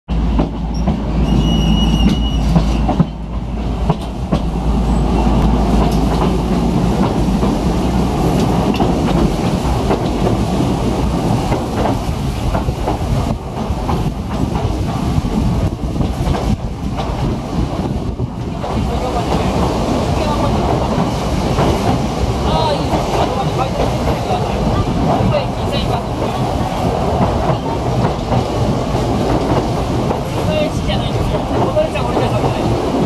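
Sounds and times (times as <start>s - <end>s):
train running gear rumble: 0.1s - 33.0s.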